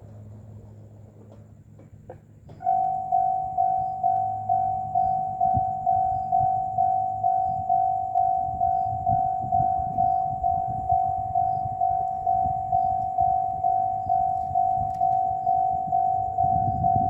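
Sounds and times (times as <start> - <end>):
level crossing warning bell: 2.6 - 17.0
low rumble: 2.6 - 17.0.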